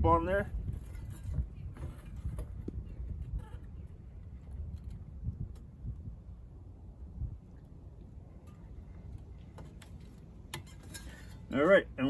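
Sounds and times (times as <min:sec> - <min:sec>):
wind rumble on microphone: 0:00.0 - 0:11.5.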